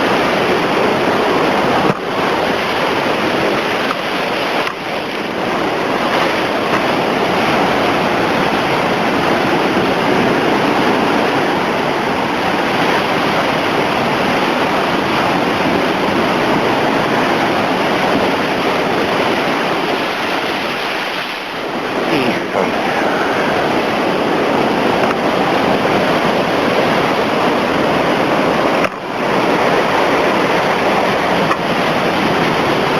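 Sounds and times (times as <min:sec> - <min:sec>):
heavy surf pounding shore: 0:00.0 - 0:32.9
wind noise on microphone: 0:00.0 - 0:32.9.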